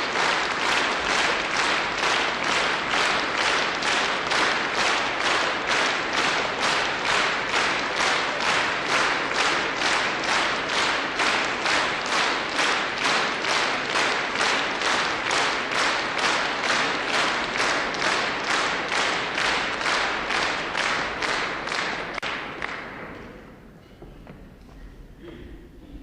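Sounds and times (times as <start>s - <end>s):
audience clapping in unison: 0.0s - 23.5s.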